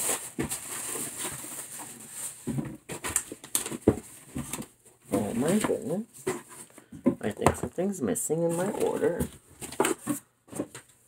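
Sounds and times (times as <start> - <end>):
paper and cardboard rustling: 0.0 - 6.9, 8.5 - 11.0.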